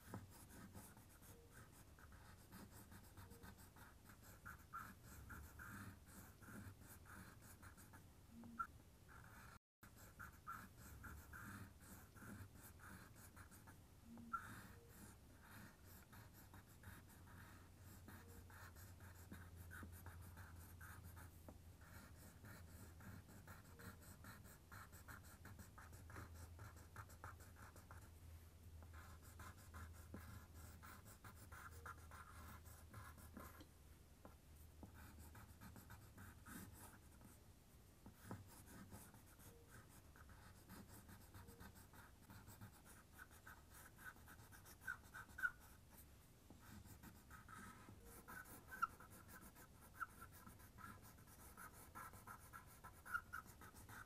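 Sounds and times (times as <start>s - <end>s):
pencil scratching on paper: 0.0s - 28.1s, 28.8s - 33.6s, 34.2s - 37.4s, 38.0s - 54.0s.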